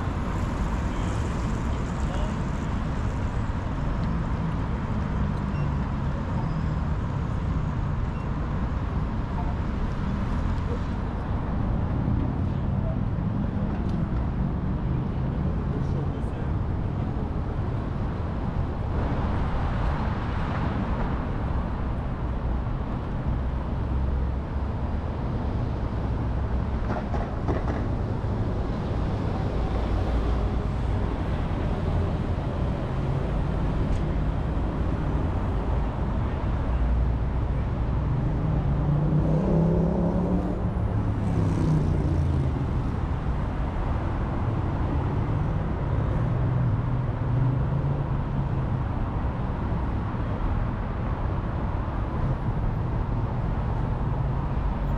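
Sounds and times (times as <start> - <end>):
rumble of passing cars: 0.0 - 54.9.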